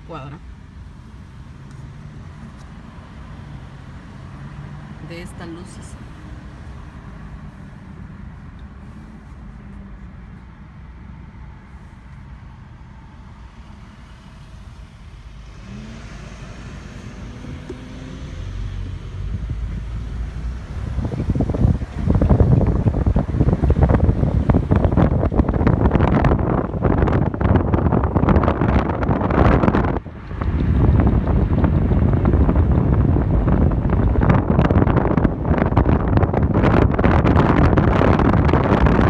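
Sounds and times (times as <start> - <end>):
car engine and road rumble: 0.0 - 39.0
irregular buffeting and rattling: 0.0 - 39.0.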